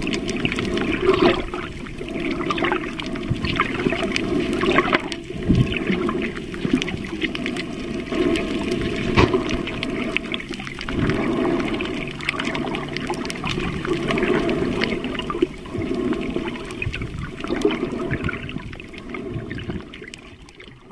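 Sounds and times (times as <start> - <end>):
water rushing and bubbling: 0.0 - 20.9.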